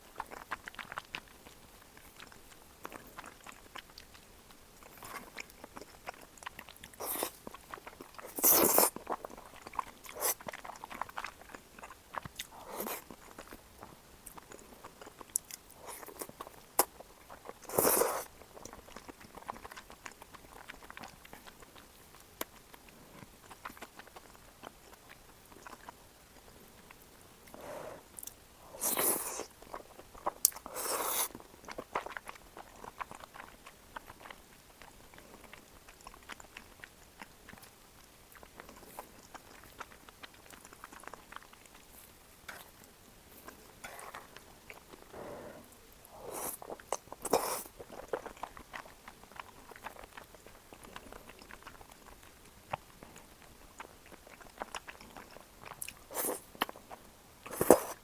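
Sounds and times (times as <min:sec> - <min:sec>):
person chewing with wet clicks: 0:00.0 - 0:58.0.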